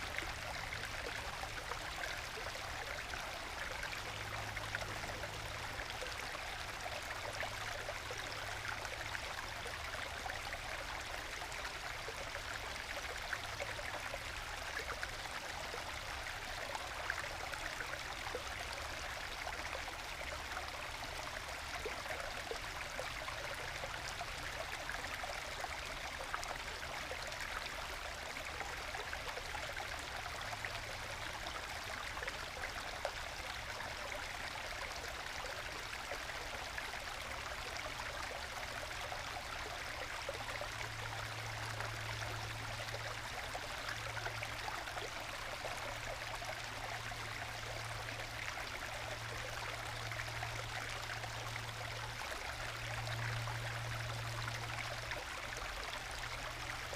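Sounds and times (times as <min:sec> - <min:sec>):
stream babbling and gurgling: 0:00.0 - 0:56.9.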